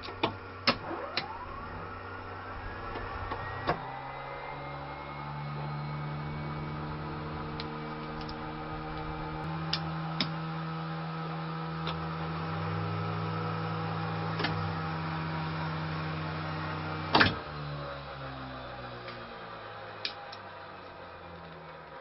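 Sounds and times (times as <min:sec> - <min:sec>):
small electric motor humming: 0:00.0 - 0:21.7.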